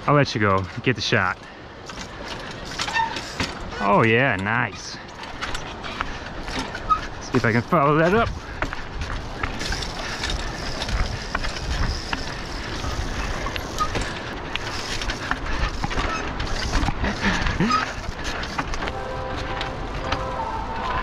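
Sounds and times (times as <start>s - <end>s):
bicycle tyres rumbling over rocks: 0.3s - 21.0s.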